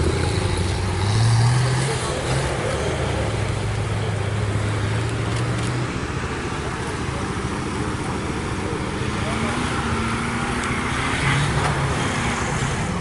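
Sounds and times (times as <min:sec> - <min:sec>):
crowd noise: 0:00.0 - 0:13.0
road noise: 0:00.0 - 0:13.0
vehicle engines humming: 0:00.0 - 0:13.0.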